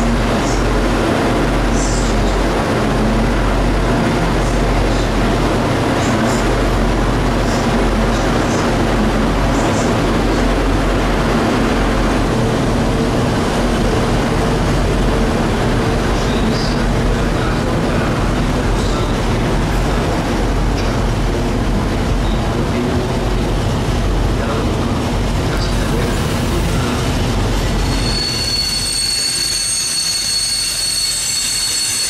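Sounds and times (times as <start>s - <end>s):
diesel locomotive engine hum: 0.0s - 32.0s.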